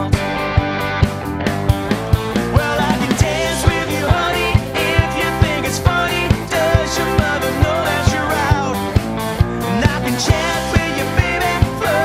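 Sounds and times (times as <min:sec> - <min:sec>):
drum kit beat: 0:00.0 - 0:12.0
electric guitar: 0:00.0 - 0:12.0
keyboard: 0:00.0 - 0:12.0
male lead vocal: 0:02.2 - 0:12.0.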